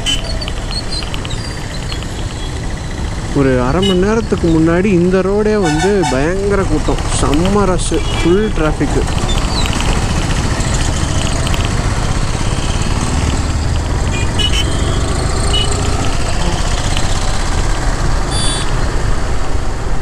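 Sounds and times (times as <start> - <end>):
motorcycle accelerating: 0.0 - 20.0.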